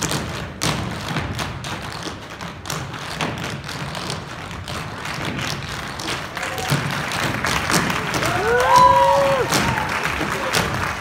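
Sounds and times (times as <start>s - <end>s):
feet tapping and stomping on wooden stage: 0.0s - 11.0s.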